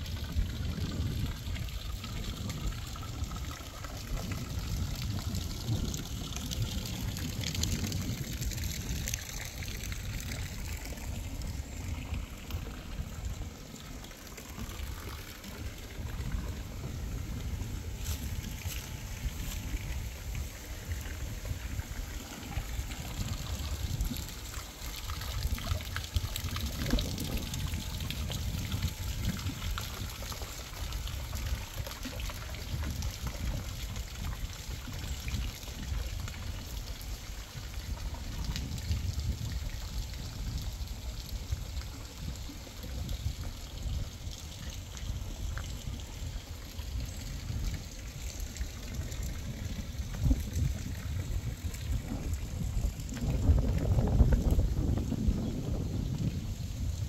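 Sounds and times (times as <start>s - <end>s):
water trickling into a pond: 0.0s - 57.0s
wind on microphone: 0.0s - 57.0s.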